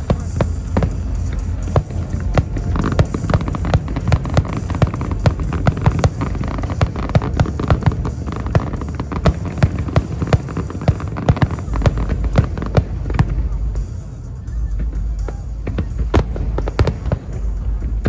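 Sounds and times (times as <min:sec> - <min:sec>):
fireworks popping and banging: 0:00.0 - 0:18.0
low rumble: 0:00.0 - 0:18.0.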